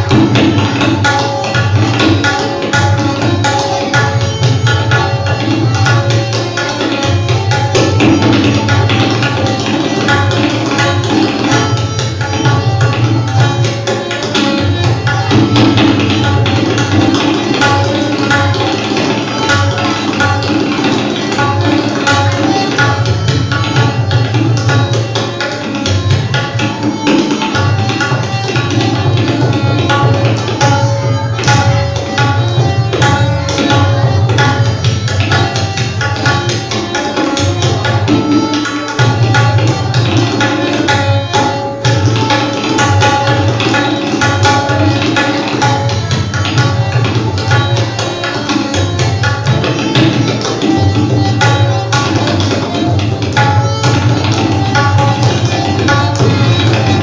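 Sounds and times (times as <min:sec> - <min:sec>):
harmonium melody: 0:00.0 - 0:57.0
rapid tabla strokes: 0:00.0 - 0:57.0.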